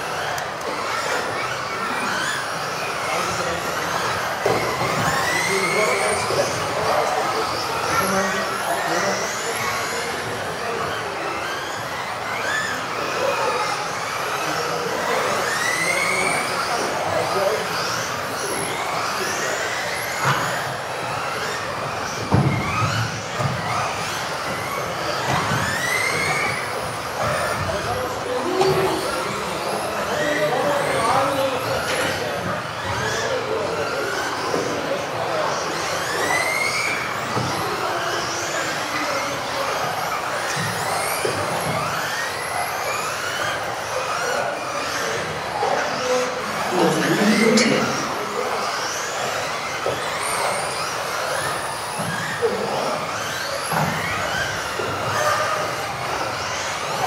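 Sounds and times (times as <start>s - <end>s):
electric toy car motors whining: 0.0s - 57.0s.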